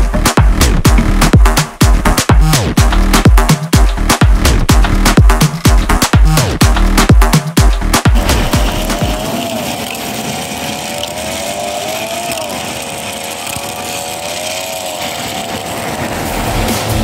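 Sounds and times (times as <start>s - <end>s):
electric fan motor hum: 0.0s - 17.0s.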